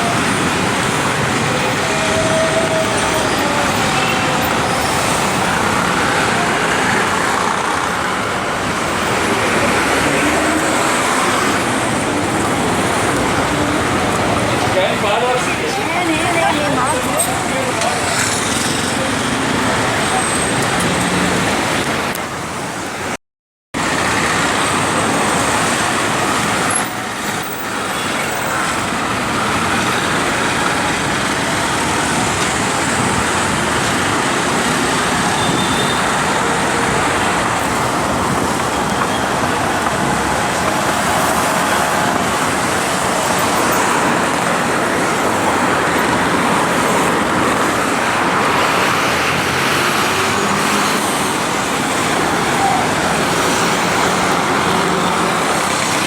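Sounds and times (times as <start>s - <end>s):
busy street traffic: 0.0s - 23.2s, 23.8s - 56.0s.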